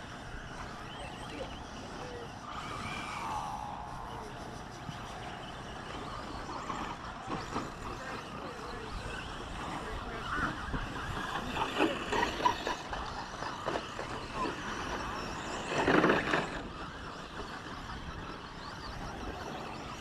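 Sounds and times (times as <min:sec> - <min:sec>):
rc trucks racing: 0:00.0 - 0:20.0.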